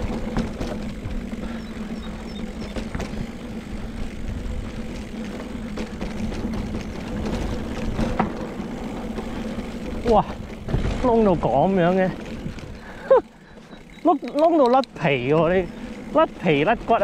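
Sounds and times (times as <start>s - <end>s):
bike clicking and rattling: 0.0s - 17.0s
constant buzz: 0.0s - 17.0s
tyres rumbling on dirt trail: 0.0s - 17.0s.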